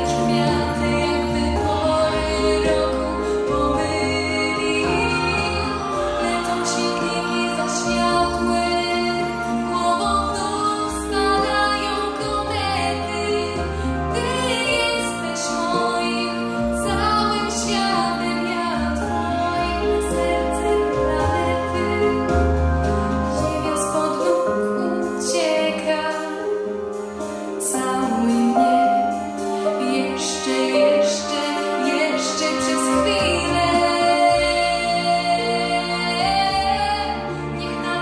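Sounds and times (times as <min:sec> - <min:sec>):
bass line: 0:00.0 - 0:38.0
instrumental backing music: 0:00.0 - 0:38.0
woman singing pop ballad: 0:00.0 - 0:38.0.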